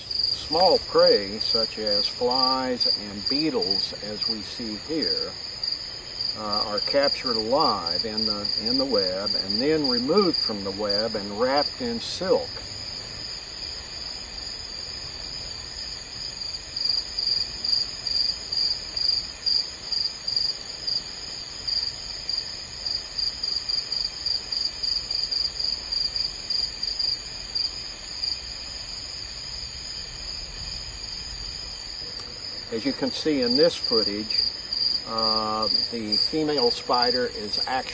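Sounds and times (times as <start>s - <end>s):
insect chirping: 0.0s - 37.9s
insect high trill: 0.0s - 37.9s.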